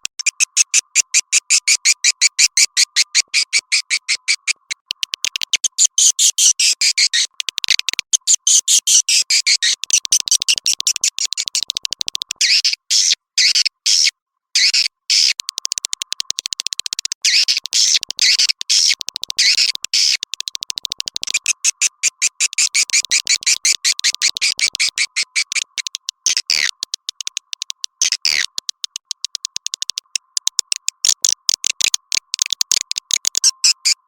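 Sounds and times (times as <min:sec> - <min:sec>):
swiftlet chirps and clicks: 0:00.0 - 0:12.8, 0:14.6 - 0:34.0.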